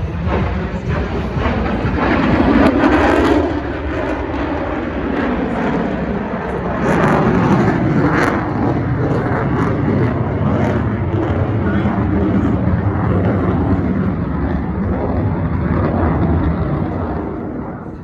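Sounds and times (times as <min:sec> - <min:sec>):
fighter jet engine rumble: 0:00.0 - 0:18.0.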